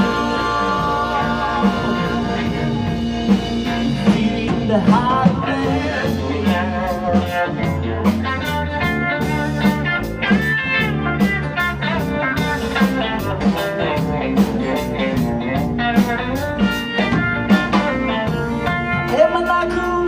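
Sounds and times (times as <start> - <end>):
blues-rock band playing: 0.0 - 20.0
electric guitar: 0.0 - 20.0.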